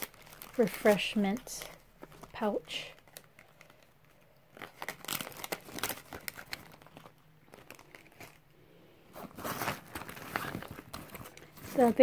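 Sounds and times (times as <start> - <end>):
plastic pouch crinkling: 0.0 - 12.0
snack wrappers crackling: 0.0 - 12.0.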